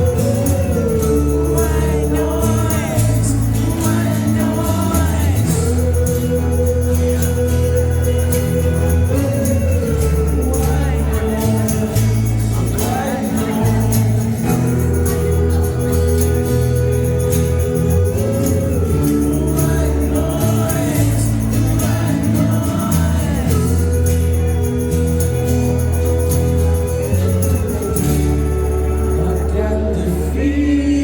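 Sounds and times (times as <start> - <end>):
live acoustic rock music: 0.0 - 31.0
person singing: 0.0 - 31.0.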